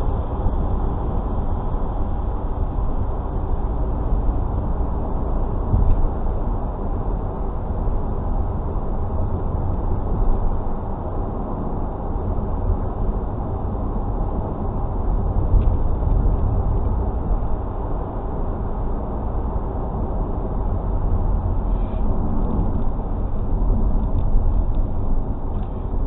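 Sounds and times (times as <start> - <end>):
car driving on road: 0.0 - 26.0.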